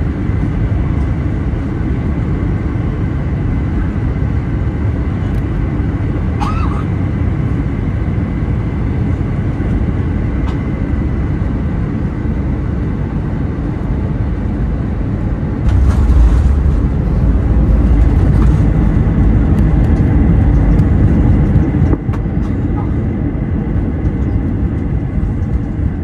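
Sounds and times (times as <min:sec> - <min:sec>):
aircraft engines and wheels rumbling: 0:00.0 - 0:26.0.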